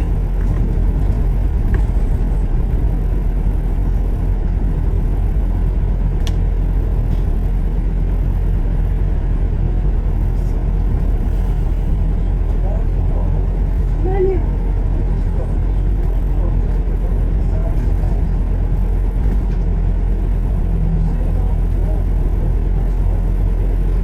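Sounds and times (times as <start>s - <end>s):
vehicle engine and tyres rumbling: 0.0s - 24.0s.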